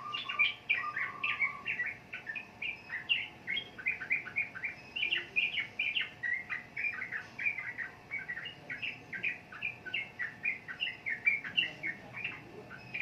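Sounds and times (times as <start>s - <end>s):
bulbul singing rapid chirps: 0.0s - 13.0s.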